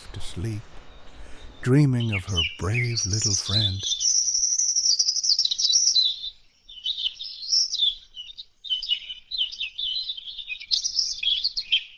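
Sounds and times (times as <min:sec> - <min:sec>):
songbird chirping and twittering: 0:00.0 - 0:11.9.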